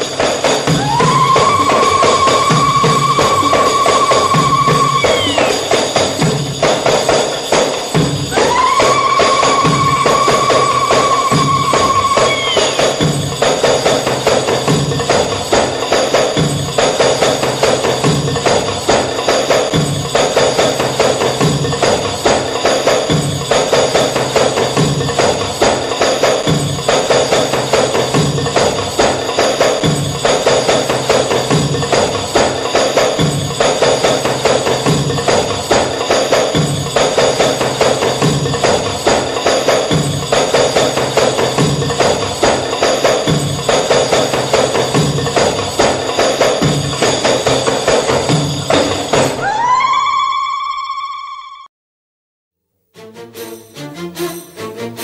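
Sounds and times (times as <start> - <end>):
music with percussive beat: 0.0 - 49.6, 53.0 - 55.0.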